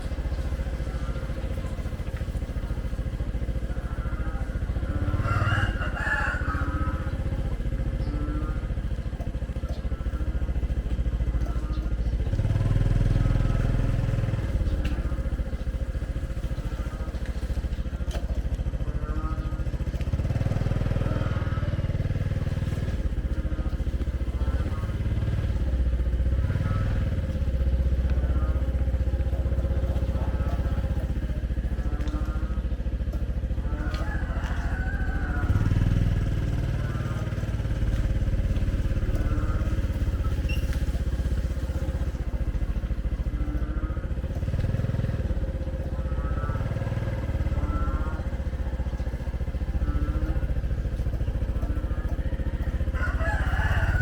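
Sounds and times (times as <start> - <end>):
faint voices: 0.0 - 54.0
motorbike engines running: 0.0 - 54.0.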